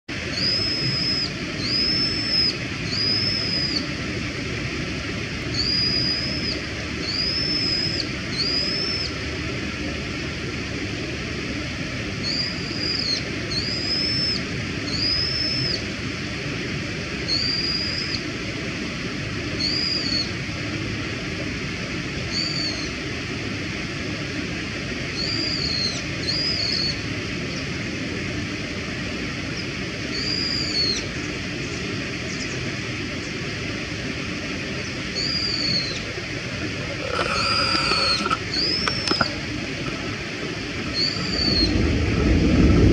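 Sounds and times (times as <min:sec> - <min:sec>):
steady background hiss: 0:00.1 - 0:42.9.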